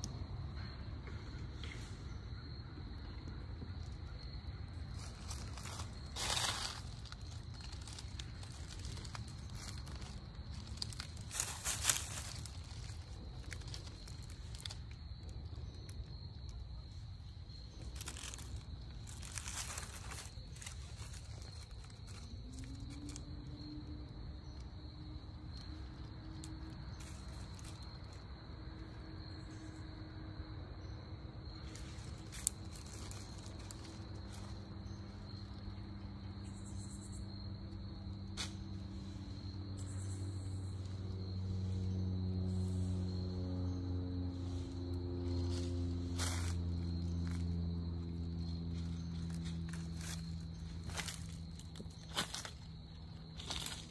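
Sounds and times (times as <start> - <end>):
crickets trilling: 0.0 - 53.9
low steady rumble: 3.0 - 29.9, 30.6 - 53.9
dry leaves crunching: 3.9 - 29.6, 31.4 - 37.0, 38.2 - 53.9.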